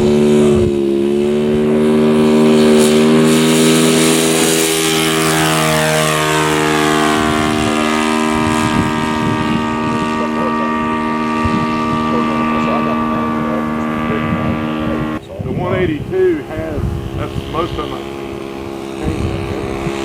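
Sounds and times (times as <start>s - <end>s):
model plane engine drone: 0.0s - 20.0s.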